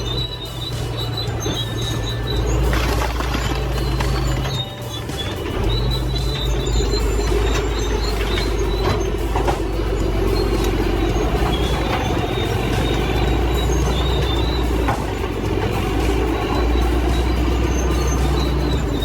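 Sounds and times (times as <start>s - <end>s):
diesel engine droning: 0.0s - 19.0s
high squeals: 0.0s - 19.0s.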